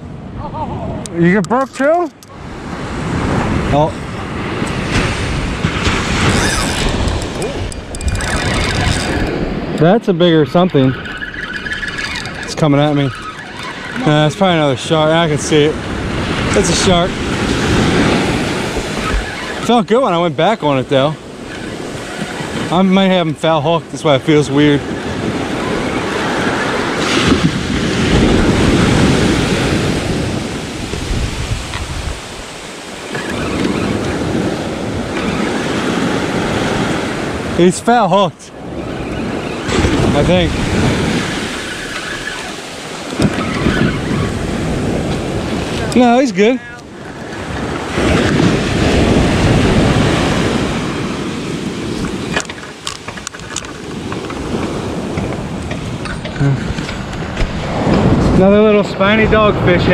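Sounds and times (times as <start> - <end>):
wind buffeting microphone: 0.0 - 37.8, 38.5 - 59.9
ocean surf breaking: 0.0 - 59.9.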